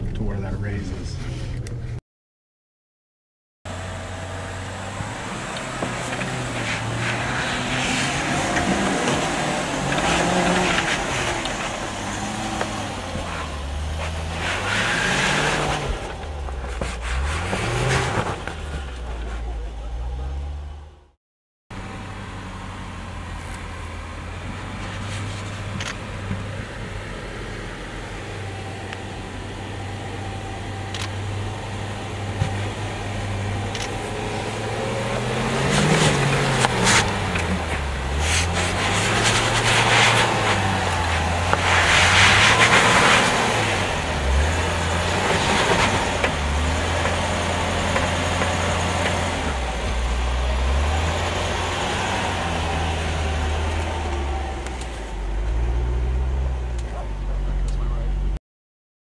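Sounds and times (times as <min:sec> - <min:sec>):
car engine running: 0:03.7 - 0:58.4.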